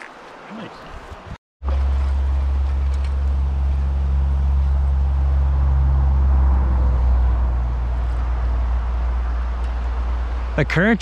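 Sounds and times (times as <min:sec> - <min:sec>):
highway traffic engine drone: 0:01.6 - 0:11.0.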